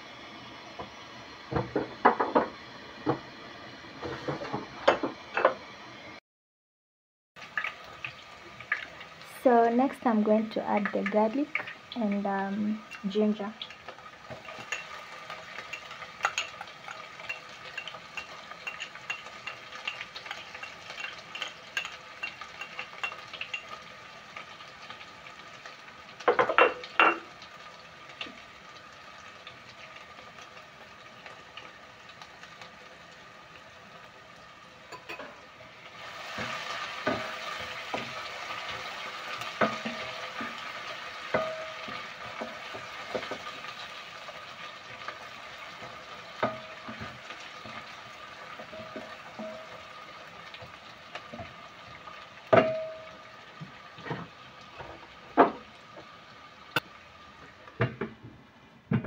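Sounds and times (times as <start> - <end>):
onions sizzling in pot: 0.0 - 6.2, 7.4 - 57.8.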